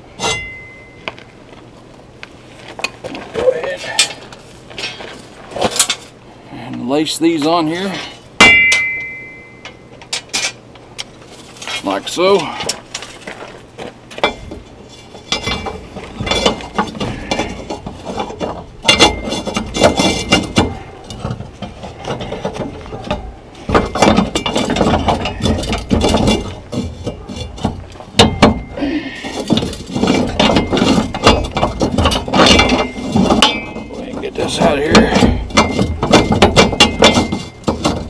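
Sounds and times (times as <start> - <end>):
rebar clinking and scraping: 0.1 - 1.2, 2.7 - 6.2, 7.0 - 38.0.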